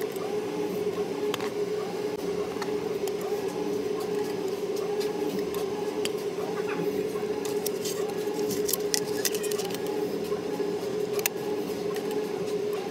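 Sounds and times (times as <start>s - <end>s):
faint whir: 0.0s - 12.9s
steady mechanical hum: 0.0s - 12.9s.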